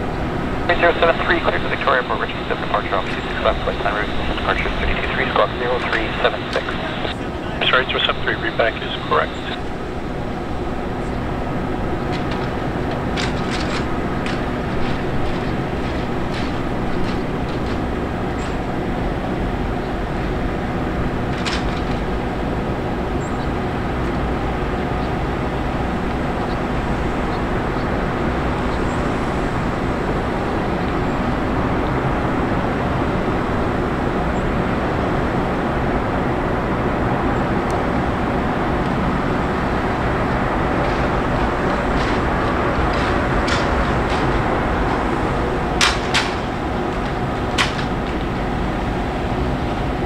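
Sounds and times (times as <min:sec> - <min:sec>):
ground support machinery drone: 0:00.0 - 0:50.0.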